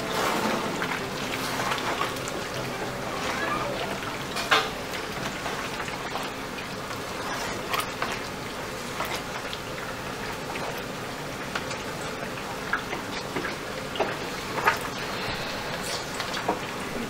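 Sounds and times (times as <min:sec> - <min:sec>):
stew sizzling in a pot: 0:00.0 - 0:17.0.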